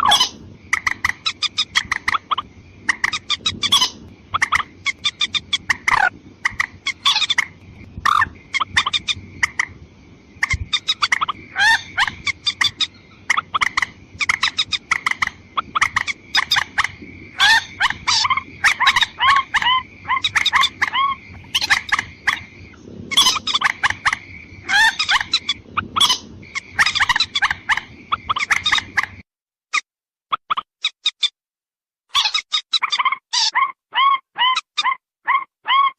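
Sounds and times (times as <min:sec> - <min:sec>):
recorded bird call: 0:00.0 - 0:31.4, 0:32.1 - 0:35.9.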